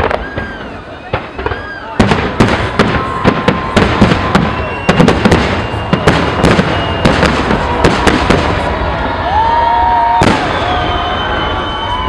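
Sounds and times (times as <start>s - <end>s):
crowd cheering: 0.0s - 12.0s
fireworks bursting: 0.0s - 12.0s.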